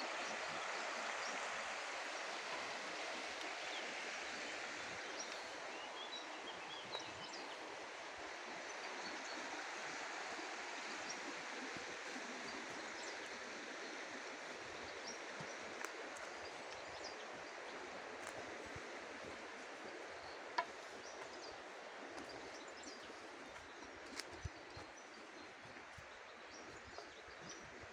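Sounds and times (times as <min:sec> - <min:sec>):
stream flowing over rocks: 0:00.0 - 0:27.9.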